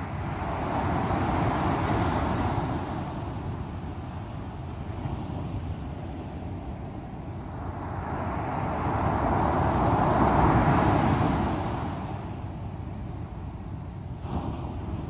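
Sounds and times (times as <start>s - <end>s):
low rumble of surf: 0.0s - 15.0s
sea waves breaking on shore: 0.0s - 15.0s.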